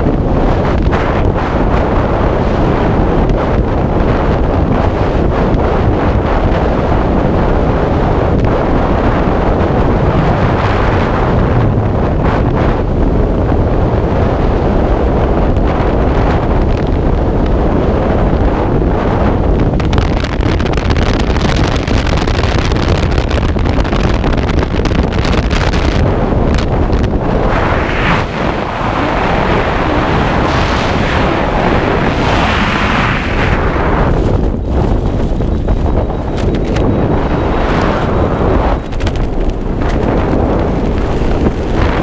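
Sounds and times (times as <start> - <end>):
wind roaring over microphone: 0.0 - 42.0.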